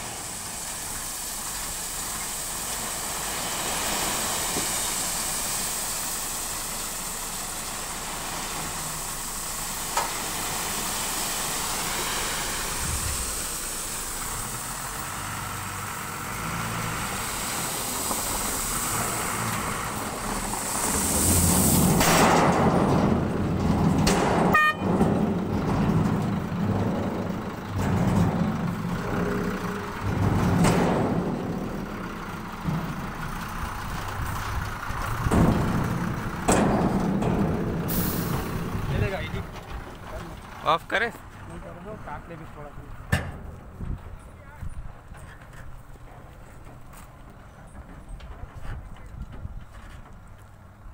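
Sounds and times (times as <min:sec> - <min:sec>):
diesel truck engine running: 0:00.0 - 0:50.9
gravel sliding off truck: 0:00.0 - 0:50.9.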